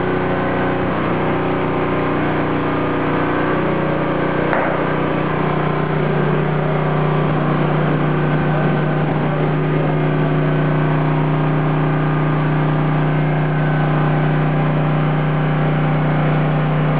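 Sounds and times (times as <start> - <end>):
machine humming: 0.0 - 16.9.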